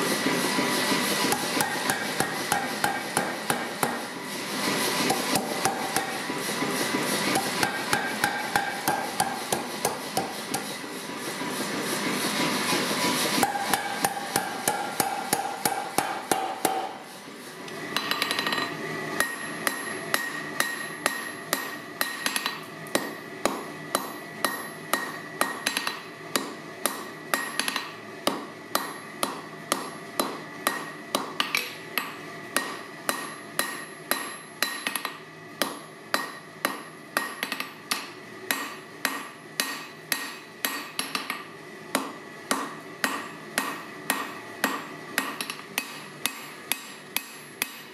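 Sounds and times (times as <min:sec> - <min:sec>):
power hammer pounding steel: 0:00.0 - 0:17.1, 0:17.9 - 0:47.9.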